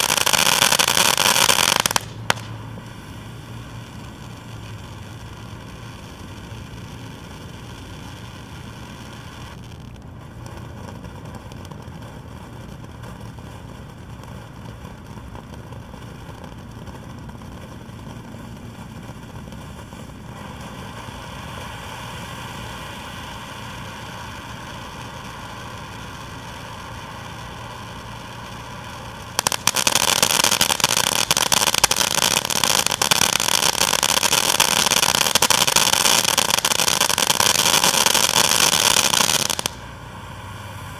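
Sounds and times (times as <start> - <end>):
fireworks fountain hissing and crackling: 0.0 - 40.9.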